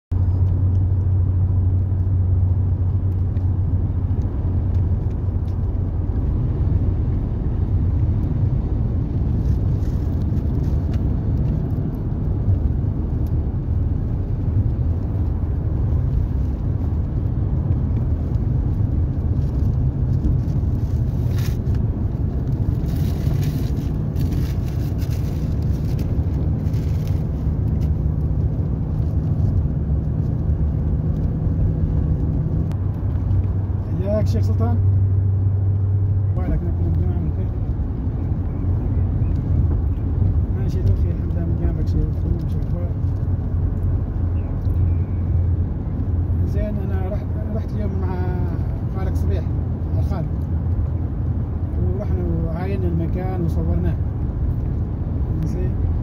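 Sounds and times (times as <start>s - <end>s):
car engine and tyre rumble: 0.1s - 56.0s.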